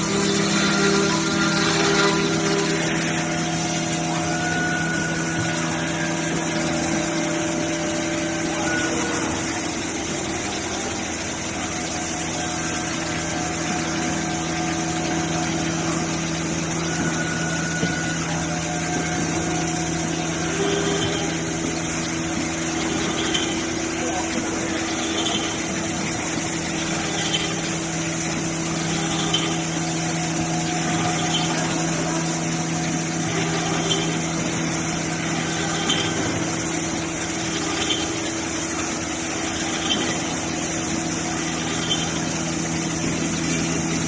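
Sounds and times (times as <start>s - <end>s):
router machine hum and whine: 0.0s - 44.0s.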